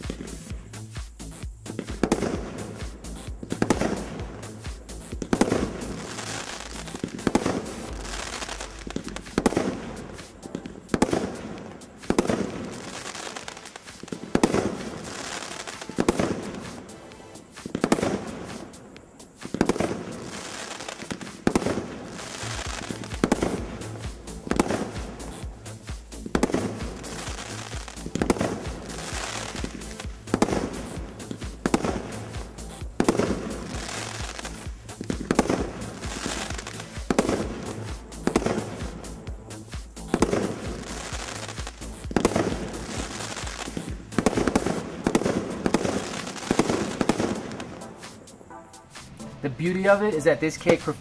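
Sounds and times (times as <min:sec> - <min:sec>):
firework bangs with echo: 0:00.0 - 0:00.5, 0:01.8 - 0:51.0
background music: 0:00.0 - 0:51.0.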